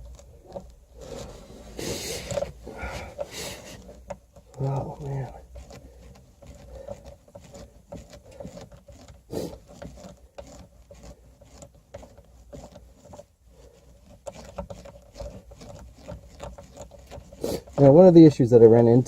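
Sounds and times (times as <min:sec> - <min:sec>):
screwdriver clicks and scrapes: 0:00.0 - 0:17.9.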